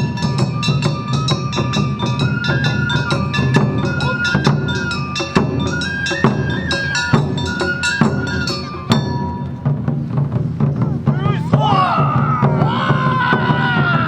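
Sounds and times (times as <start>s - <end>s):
bamboo flute melody: 0.0s - 14.0s
gong and drum beat: 0.0s - 14.0s.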